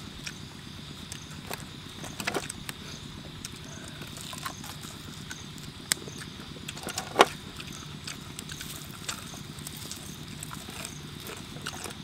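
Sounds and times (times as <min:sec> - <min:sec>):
steady background hum: 0:00.0 - 0:12.0
wet chewing and lip smacks: 0:00.2 - 0:00.4, 0:01.0 - 0:12.0.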